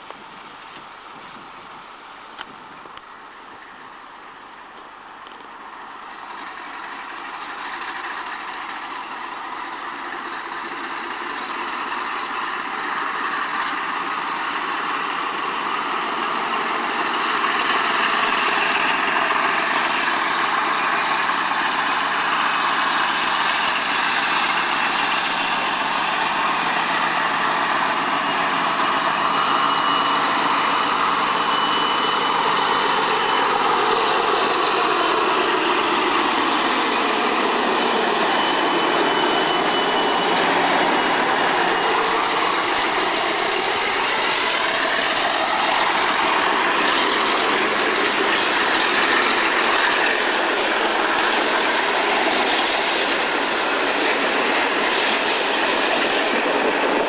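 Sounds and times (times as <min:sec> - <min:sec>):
diesel locomotive engine working hard: 0:00.0 - 0:57.0
high engine whine: 0:00.0 - 0:57.0.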